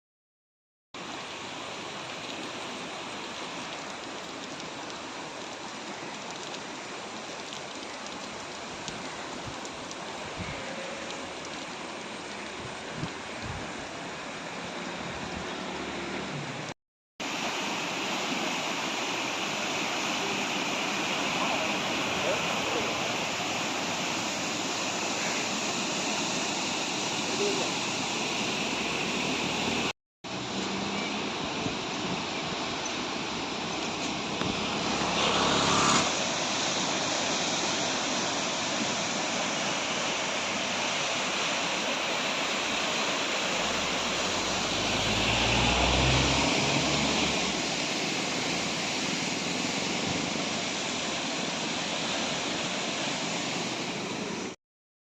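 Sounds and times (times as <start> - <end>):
river water rushing: 1.0 - 54.6.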